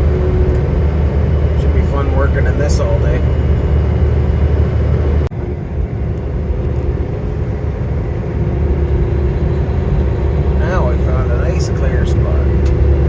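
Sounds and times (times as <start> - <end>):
truck road and engine rumble: 0.0 - 13.0.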